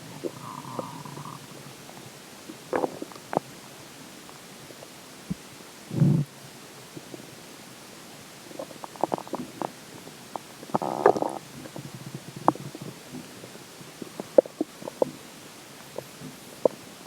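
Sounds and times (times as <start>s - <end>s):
stomach gurgling: 0.0s - 6.3s, 8.4s - 17.0s.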